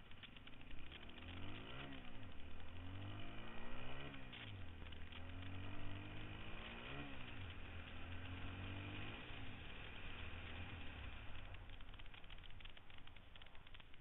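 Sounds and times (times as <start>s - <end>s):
dirt bike engine revving: 0.3s - 12.8s.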